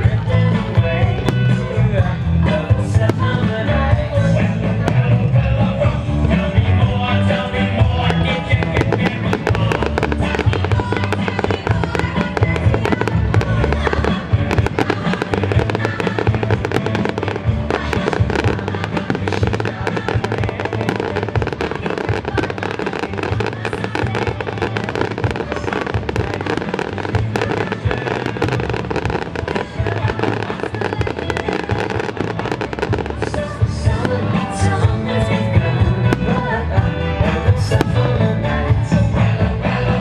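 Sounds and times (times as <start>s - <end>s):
fireworks cracking and banging: 0.0s - 40.0s
loud music playing: 0.0s - 40.0s.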